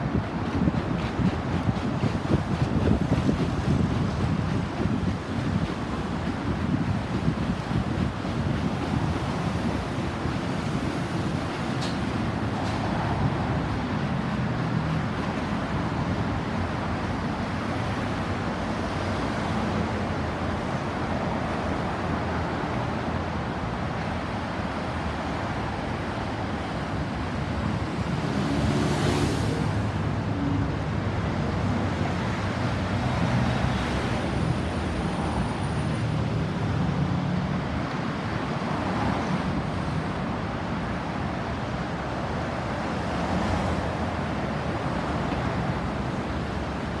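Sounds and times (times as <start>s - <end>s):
passing vehicles rumbling and hissing: 0.0s - 47.0s.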